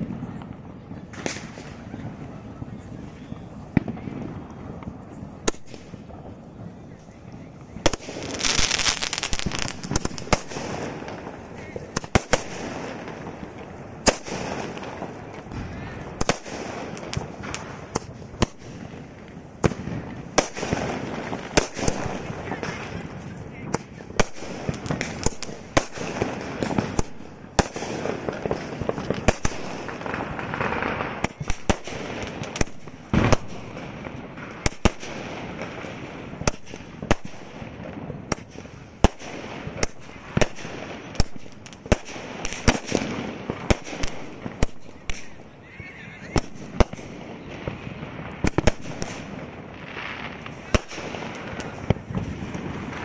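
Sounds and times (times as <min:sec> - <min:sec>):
firework bangs: 0:00.0 - 0:53.0
firework crackling: 0:00.0 - 0:53.0.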